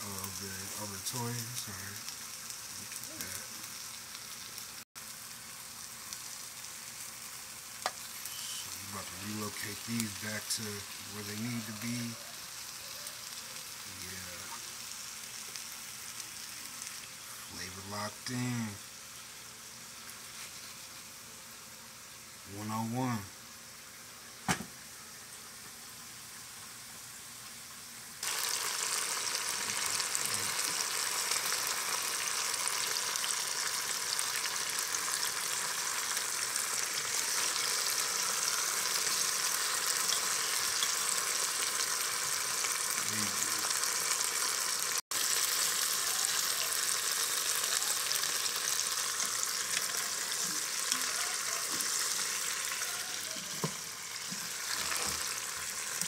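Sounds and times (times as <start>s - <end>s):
meat sizzling in hot fat: 0.0s - 56.0s.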